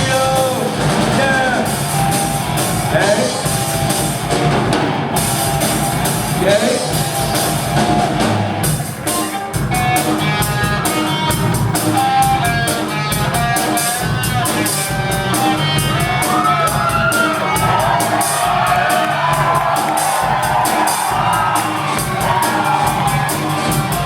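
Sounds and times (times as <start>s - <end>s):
bass guitar: 0.0s - 24.0s
drum kit: 0.0s - 24.0s
electric guitars: 0.0s - 24.0s.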